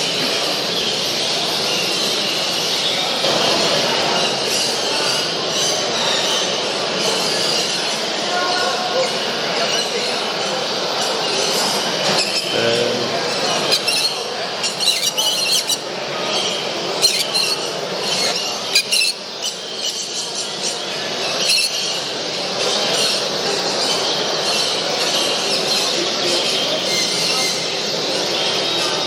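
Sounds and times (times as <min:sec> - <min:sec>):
birds chirping and singing: 0:00.0 - 0:29.0
murmur of distant voices: 0:00.0 - 0:29.0.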